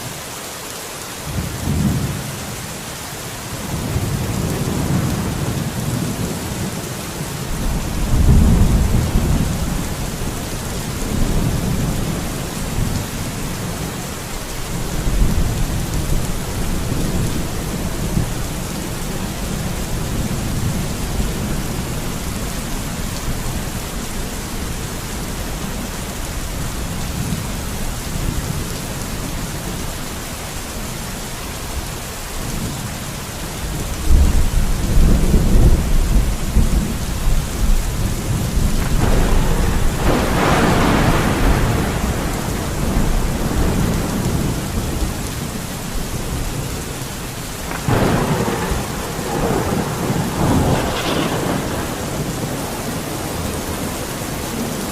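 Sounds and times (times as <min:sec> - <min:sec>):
steady rain falling: 0:00.0 - 0:54.9
low rolling thunder: 0:03.6 - 0:30.8, 0:33.6 - 0:54.9.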